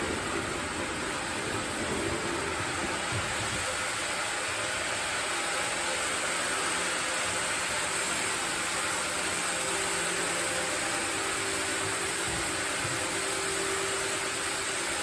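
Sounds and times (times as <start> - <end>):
sawmill machinery rushing: 0.0 - 15.0.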